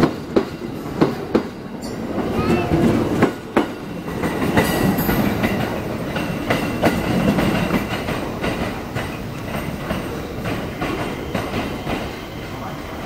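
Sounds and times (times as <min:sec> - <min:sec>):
train rolling rumble: 0:00.0 - 0:13.0
train wheels clacking: 0:00.0 - 0:13.0.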